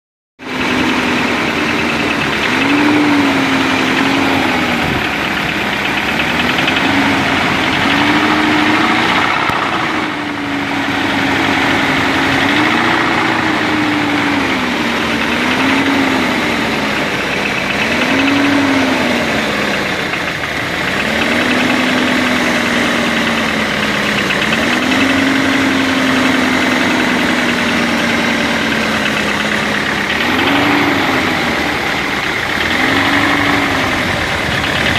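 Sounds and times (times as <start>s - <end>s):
car engine revving: 0.4s - 34.9s
rattly engine clatter: 0.4s - 34.9s.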